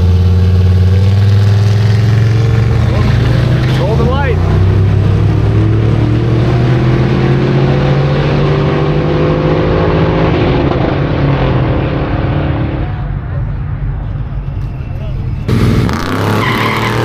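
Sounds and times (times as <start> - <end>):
truck engines at full throttle: 0.0 - 17.0.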